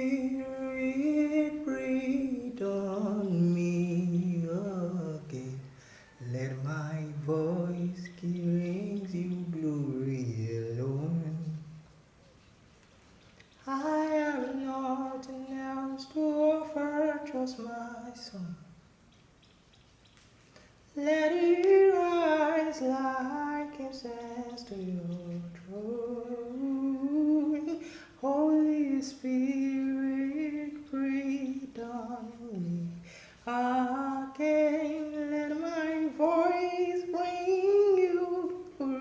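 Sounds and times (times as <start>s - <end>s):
solo voice singing: 0.0s - 11.9s, 13.6s - 18.8s, 20.9s - 39.0s.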